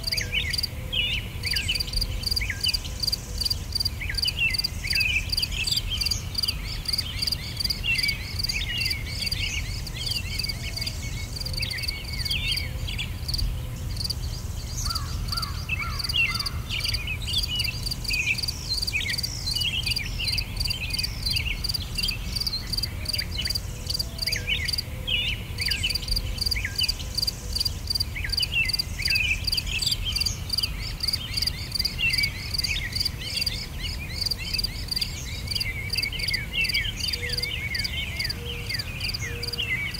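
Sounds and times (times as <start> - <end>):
insects chirping: 0.0 - 0.7, 1.4 - 24.9, 25.6 - 39.6
sweeping chirping calls: 0.0 - 39.9.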